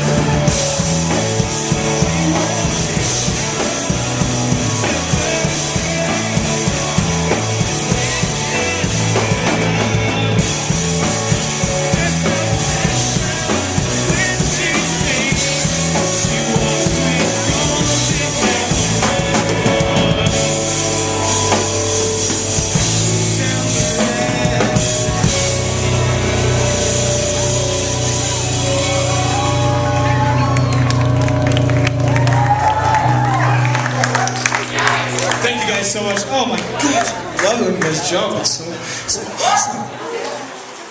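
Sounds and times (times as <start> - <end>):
drum kit beat: 0.0 - 36.8
live rock band playing: 0.0 - 39.0.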